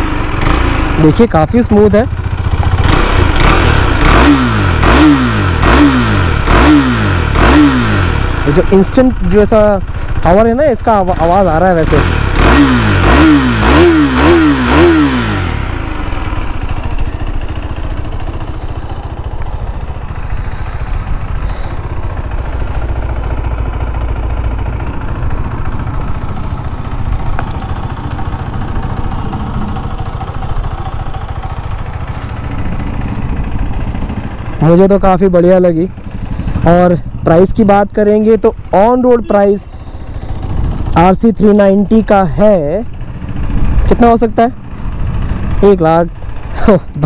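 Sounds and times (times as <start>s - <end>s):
motorcycle engine revving and idling: 0.0s - 47.0s.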